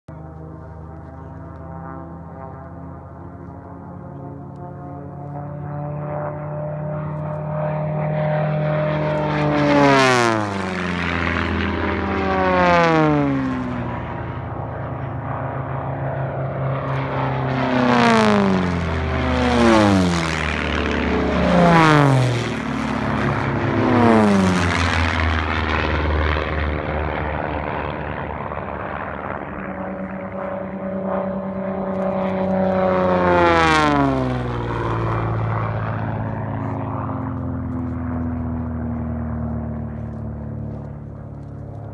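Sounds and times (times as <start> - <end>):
propeller planes flying past: 0.1 - 41.9.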